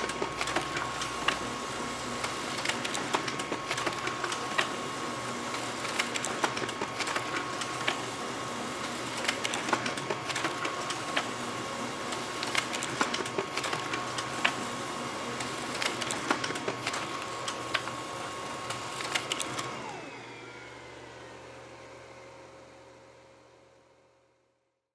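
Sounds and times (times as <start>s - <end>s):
printer paper feed clicks: 0.0s - 20.2s
laser printer running: 0.0s - 22.2s.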